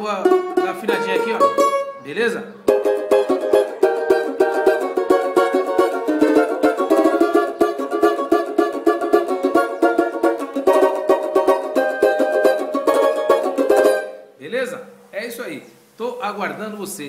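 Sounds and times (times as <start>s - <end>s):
banjo strummed in samba rhythm: 0.0s - 14.4s.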